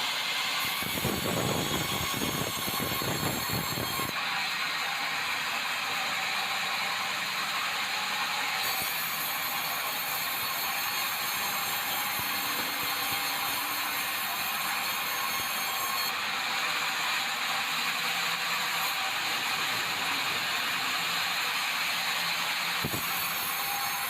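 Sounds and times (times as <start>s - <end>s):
high saw whine: 0.0s - 24.0s
sawmill mechanical whir: 0.0s - 24.0s.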